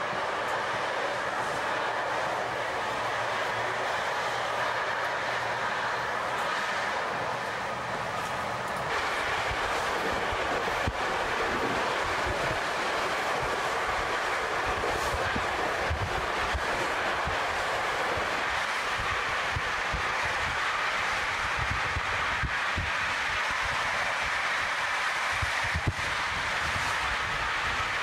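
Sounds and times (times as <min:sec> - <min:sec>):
train wheels on rail: 0:00.0 - 0:28.0.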